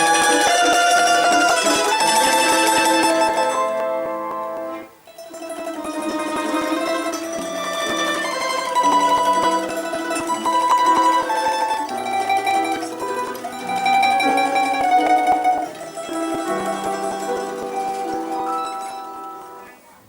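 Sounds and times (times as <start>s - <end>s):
plucked mandolin melody: 0.0s - 19.8s.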